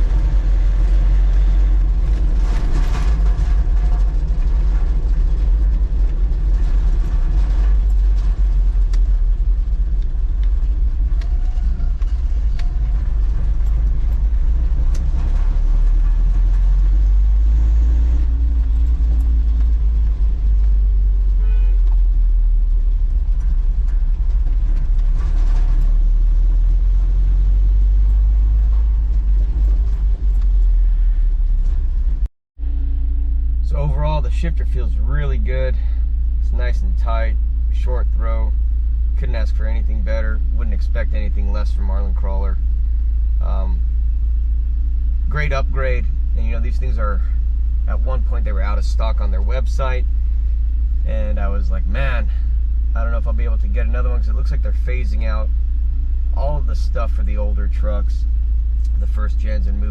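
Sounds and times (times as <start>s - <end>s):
car engine driving: 0.0s - 59.9s
road rumble: 0.0s - 59.9s.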